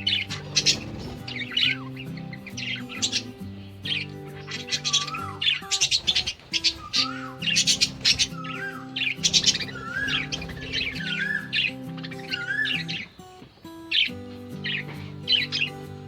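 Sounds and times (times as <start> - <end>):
background music with held chords: 0.0 - 16.0
budgerigars chattering: 0.0 - 16.0.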